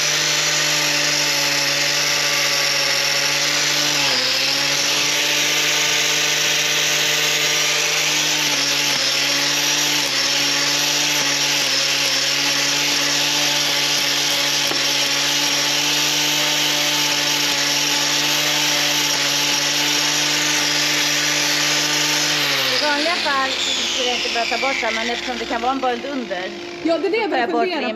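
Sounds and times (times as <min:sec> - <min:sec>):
angle grinder grinding: 0:00.0 - 0:27.9.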